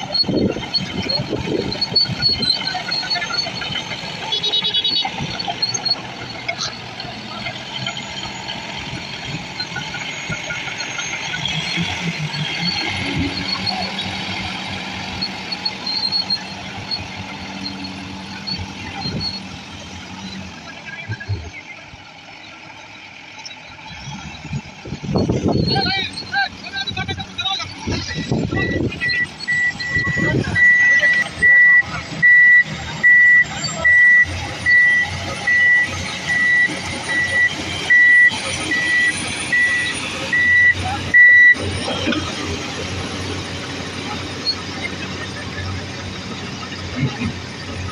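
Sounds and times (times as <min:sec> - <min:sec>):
reversing alarm beeping: 0:00.0 - 0:21.8, 0:22.4 - 0:47.9
heavy machine engine running: 0:00.0 - 0:47.9.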